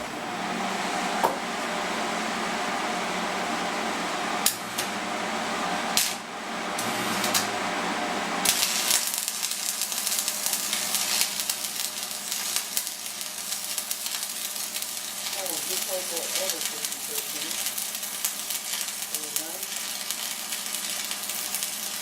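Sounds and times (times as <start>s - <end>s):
welding arc hissing and crackling: 4.4s - 22.0s.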